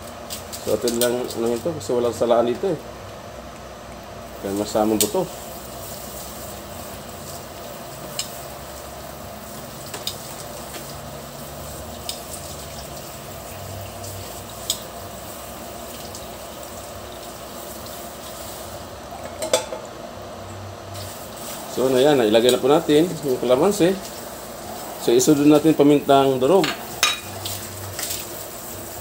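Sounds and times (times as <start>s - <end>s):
food sizzling in a wok: 4.2s - 29.0s.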